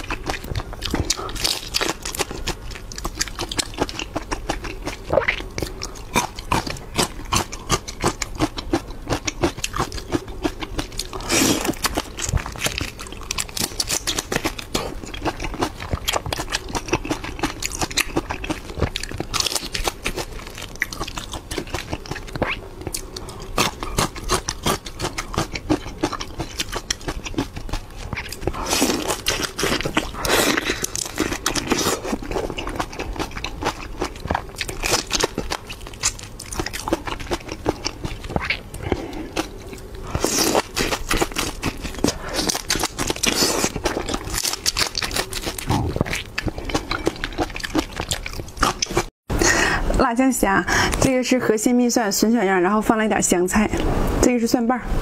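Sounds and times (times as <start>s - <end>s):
crunchy chewing of shrimp: 0.0s - 49.1s.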